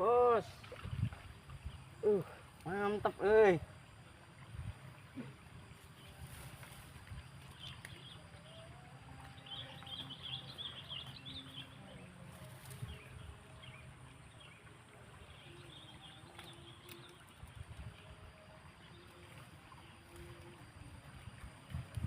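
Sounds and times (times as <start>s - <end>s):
birds twittering: 1.4s - 21.4s.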